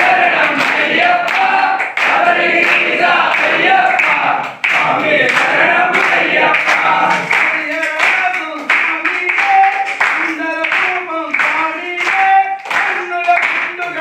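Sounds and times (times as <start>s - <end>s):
hand claps: 0.0s - 14.0s
men singing in unison: 0.0s - 14.0s.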